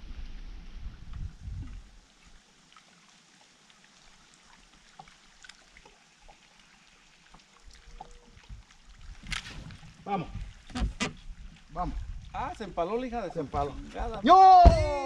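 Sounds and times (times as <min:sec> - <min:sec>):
water trickling and lapping: 0:00.0 - 0:15.0.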